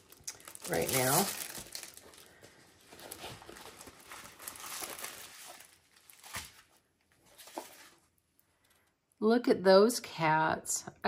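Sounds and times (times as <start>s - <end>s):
plastic crinkling and rustling: 0.0s - 8.9s.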